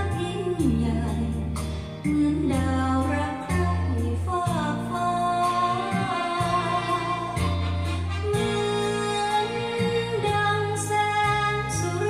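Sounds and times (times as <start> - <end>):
person singing over music: 0.0 - 12.0
repeated bass notes: 0.0 - 12.0.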